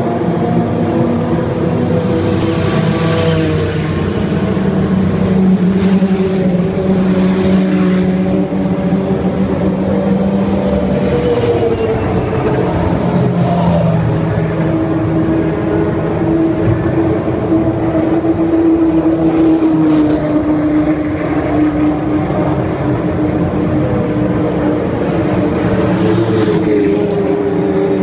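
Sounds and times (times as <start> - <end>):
racing car engines at low revs: 0.0 - 28.0.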